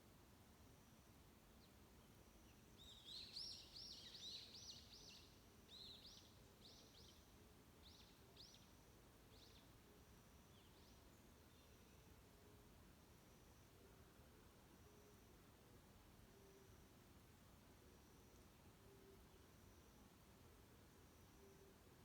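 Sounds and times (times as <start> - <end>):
faint forest background hiss: 0.0 - 22.0.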